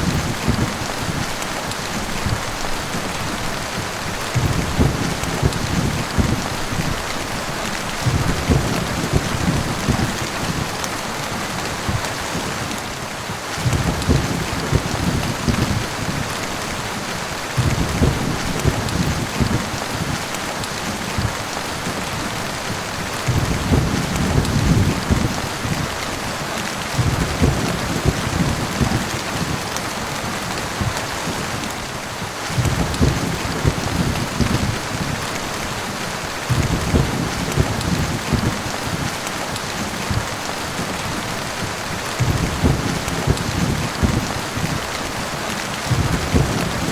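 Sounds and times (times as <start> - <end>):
thunder rumbling: 0.0 - 12.8, 13.5 - 16.7, 17.3 - 29.6, 32.5 - 45.2, 45.8 - 46.9
heavy rain falling: 0.0 - 46.9.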